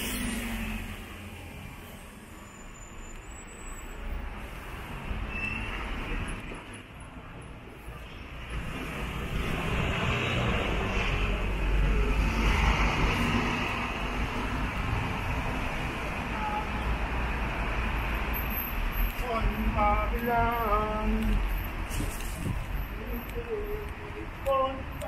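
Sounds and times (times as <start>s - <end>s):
passing vehicle engine rumble: 0.0s - 25.0s
traffic noise: 0.0s - 25.0s.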